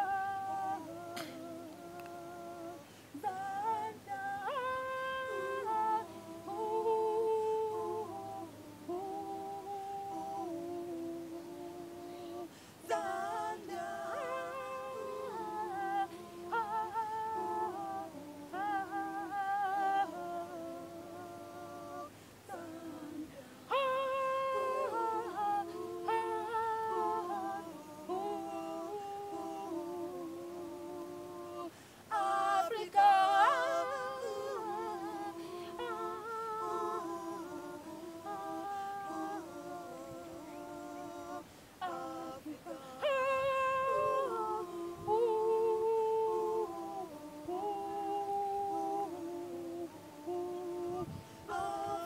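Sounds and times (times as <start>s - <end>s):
group singing without instruments: 0.0s - 52.0s.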